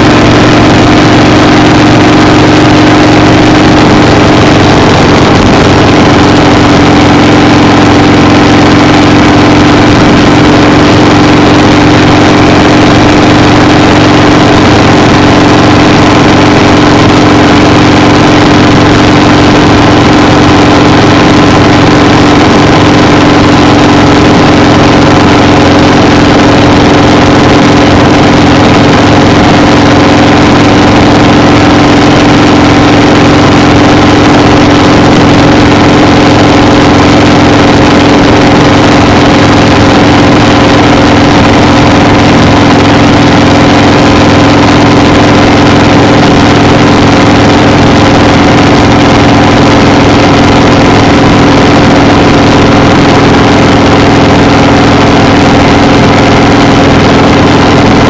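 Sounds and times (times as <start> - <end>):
loud steady engine drone: 0.0 - 58.0.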